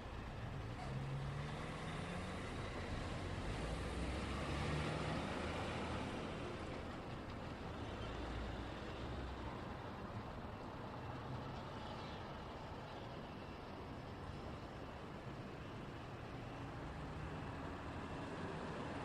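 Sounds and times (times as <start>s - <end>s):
low hum of heavy vehicles: 0.0s - 19.0s
road traffic passing: 0.0s - 19.0s.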